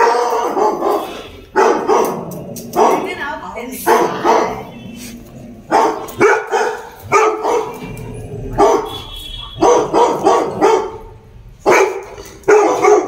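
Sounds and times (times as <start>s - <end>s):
dog barking: 0.0s - 3.1s, 3.8s - 4.9s, 5.7s - 7.8s, 8.6s - 13.0s.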